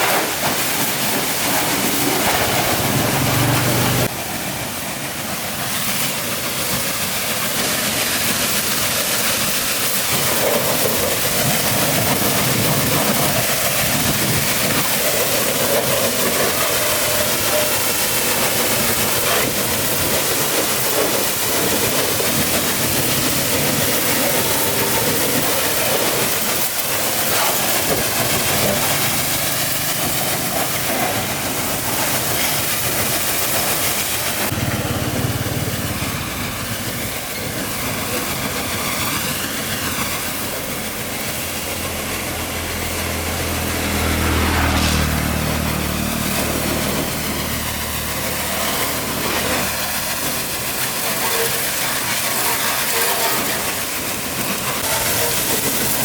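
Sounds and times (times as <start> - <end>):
engine running: 0.0 - 56.0
hissing machine noise: 0.0 - 56.0.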